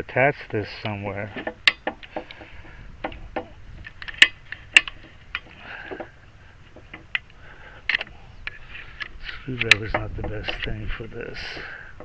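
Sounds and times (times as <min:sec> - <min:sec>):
sharp clicks and knocks: 0:00.4 - 0:12.0.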